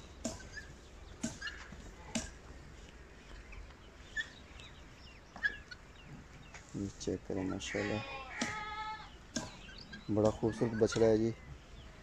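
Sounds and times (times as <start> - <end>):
bird chirps: 0.0 - 2.3, 3.2 - 6.8, 7.4 - 12.0.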